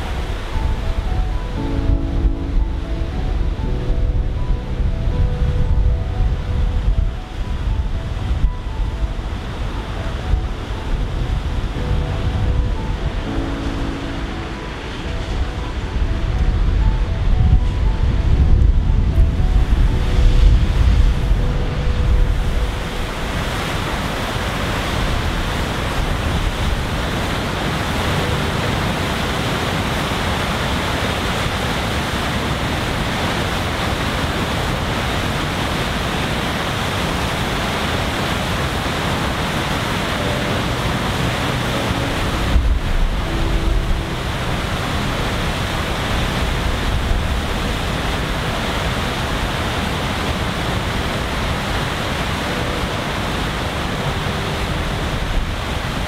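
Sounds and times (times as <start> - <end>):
waterfall rushing: 0.0 - 56.0
wind buffeting microphone: 0.0 - 56.0.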